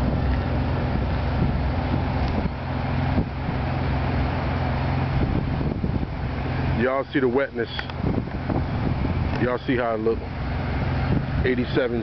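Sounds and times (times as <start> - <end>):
constant wash of noise: 0.0 - 12.0
low engine hum: 0.0 - 12.0.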